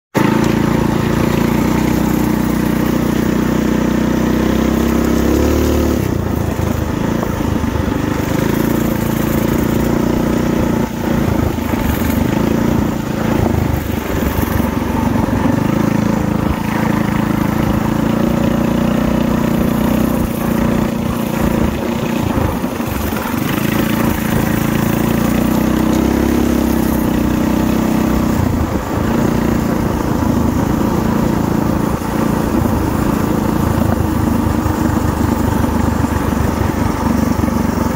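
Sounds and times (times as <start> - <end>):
small motorbike engine running: 0.2 - 37.9.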